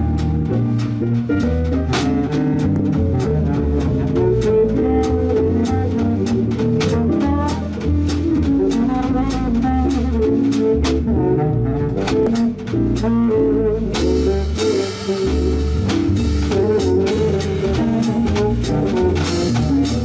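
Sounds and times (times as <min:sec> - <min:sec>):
drums: 0:00.0 - 0:20.0
saxophone solo: 0:01.7 - 0:20.0.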